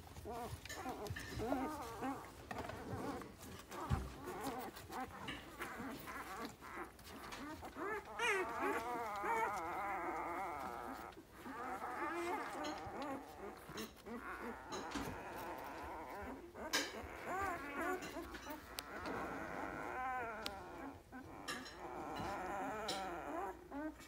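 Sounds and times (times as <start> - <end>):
puppies squeaking and whimpering: 0.0 - 24.0.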